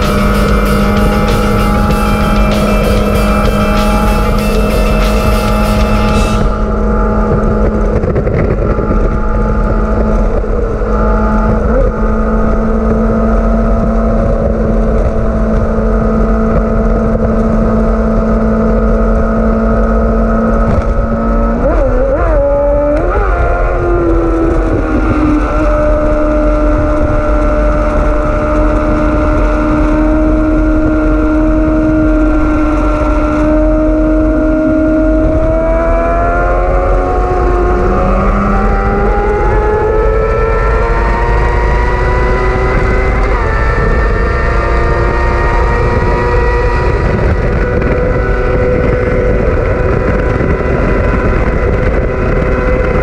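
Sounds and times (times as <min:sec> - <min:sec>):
motorcycle engine running: 0:00.0 - 0:53.0
wind rumble on microphone: 0:00.0 - 0:53.0.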